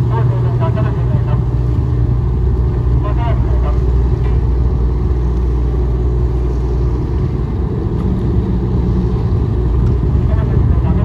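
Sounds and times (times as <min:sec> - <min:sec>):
ship engines rumbling: 0:00.0 - 0:11.0.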